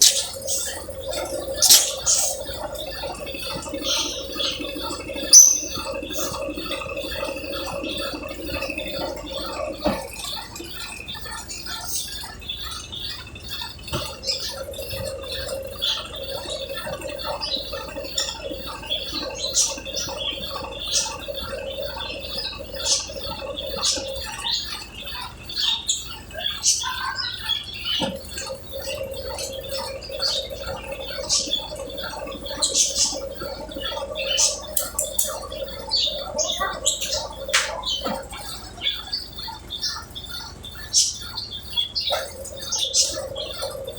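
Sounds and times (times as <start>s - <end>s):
washing machine spinning hum: 0.0s - 43.9s.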